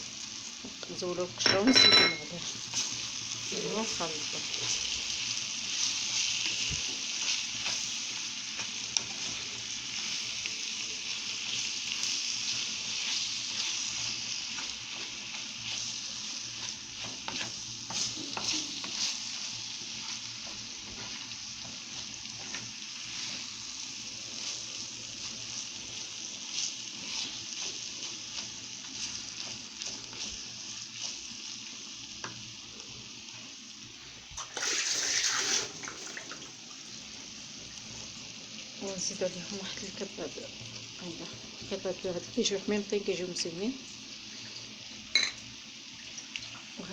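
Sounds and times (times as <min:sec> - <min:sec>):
greens sizzling in oil: 0:00.0 - 0:46.9.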